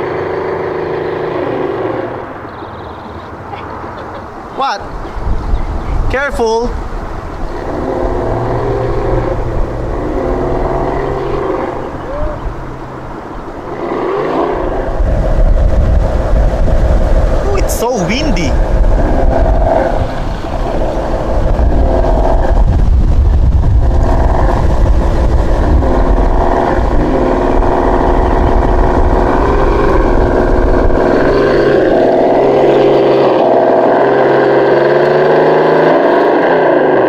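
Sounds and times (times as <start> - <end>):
wind rumble on microphone: 4.8 - 37.0.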